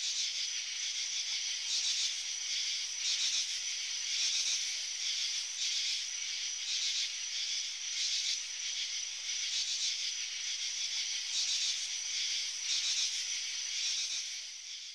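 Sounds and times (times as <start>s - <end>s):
insect chorus hiss: 0.0s - 14.9s.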